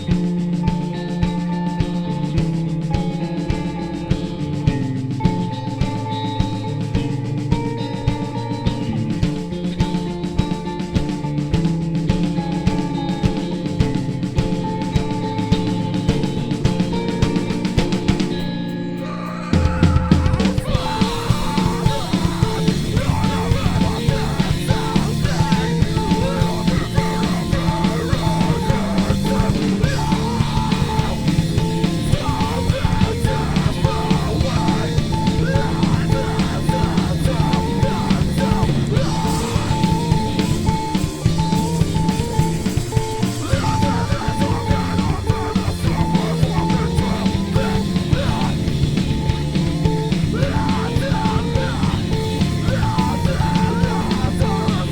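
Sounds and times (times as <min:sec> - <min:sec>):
drum kit: 0:00.0 - 0:54.9
electric guitars: 0:00.0 - 0:54.9.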